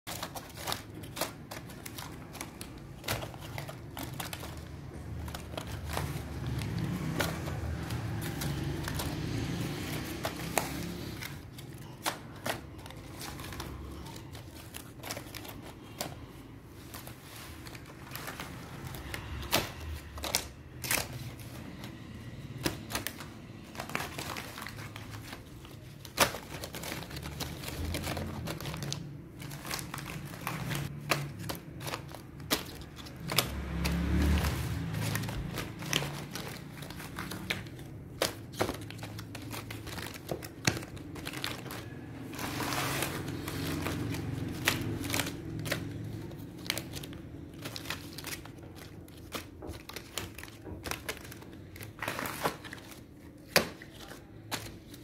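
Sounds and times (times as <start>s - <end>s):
plastic crinkling: 0.0s - 55.0s
plastic packs clicking and tapping: 0.1s - 55.0s.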